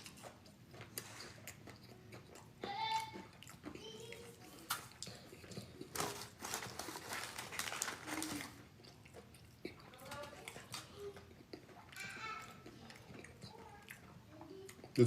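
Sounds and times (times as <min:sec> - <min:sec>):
chewing mouth noises: 0:00.0 - 0:06.4, 0:08.2 - 0:15.0.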